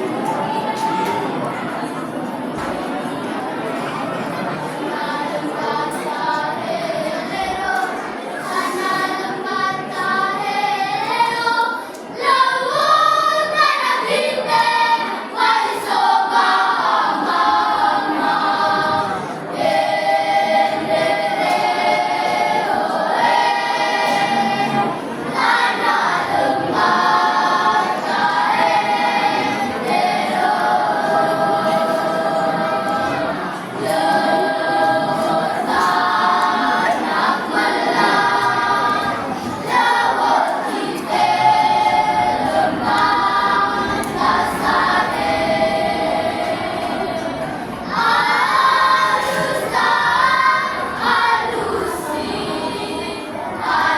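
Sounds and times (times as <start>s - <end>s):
children's choir singing: 0.0s - 53.9s.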